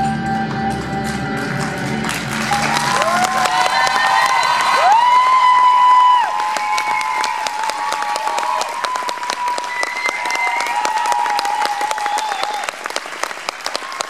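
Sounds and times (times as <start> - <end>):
audience applauding: 1.0 - 14.0
cheers and whoops: 2.4 - 14.0.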